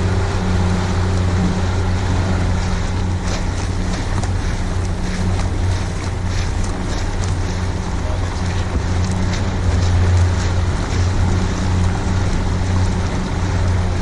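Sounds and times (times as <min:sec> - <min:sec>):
outboard motor droning: 0:00.0 - 0:14.0
water rushing past hull: 0:00.0 - 0:14.0
wind on microphone: 0:00.0 - 0:14.0.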